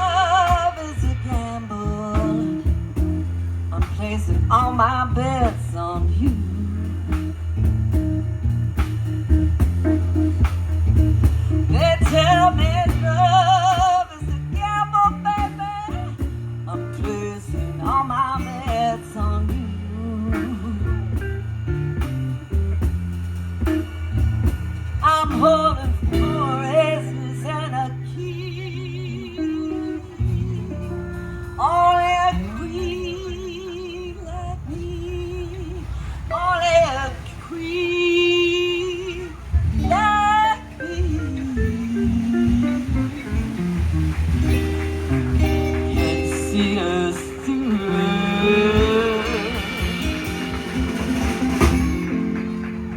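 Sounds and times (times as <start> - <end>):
woman singing wordless notes: 0.0 - 7.6, 11.3 - 22.1, 25.0 - 44.7, 45.4 - 52.9
lead guitar melody with vibrato: 0.0 - 34.0, 38.5 - 52.9
blues band playing: 0.0 - 52.9.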